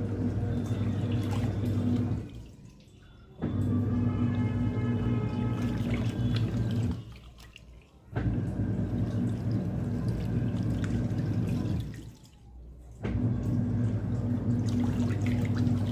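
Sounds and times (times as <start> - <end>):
washing machine motor hum: 0.0 - 15.9
water sloshing in drum: 0.0 - 15.9.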